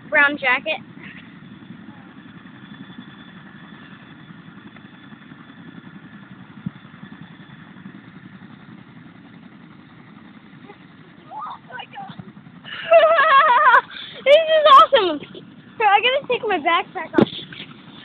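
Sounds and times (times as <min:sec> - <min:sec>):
helicopter rotor rumble: 0:00.0 - 0:18.0
high turbine whine: 0:00.0 - 0:18.0.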